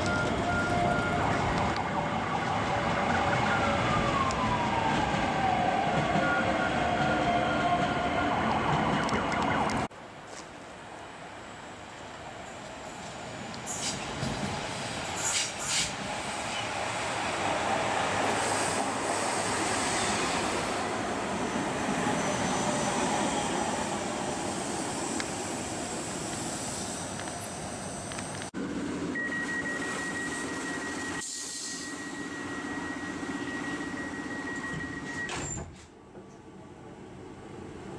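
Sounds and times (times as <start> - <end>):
electric train rumbling: 0.0 - 9.9, 10.7 - 37.9.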